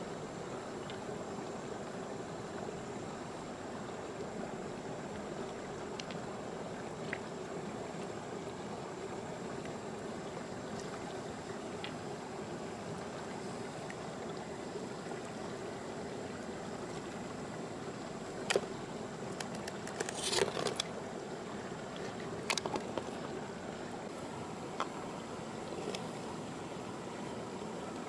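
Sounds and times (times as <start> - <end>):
shallow stream rushing: 0.0 - 28.0.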